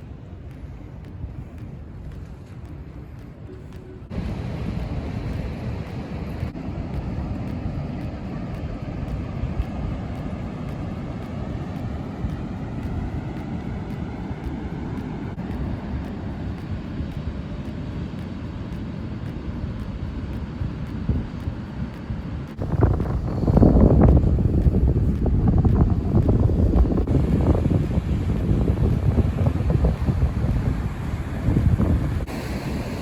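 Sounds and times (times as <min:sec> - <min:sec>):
ocean surf: 0:00.0 - 0:33.0
wind buffeting microphone: 0:00.0 - 0:33.0.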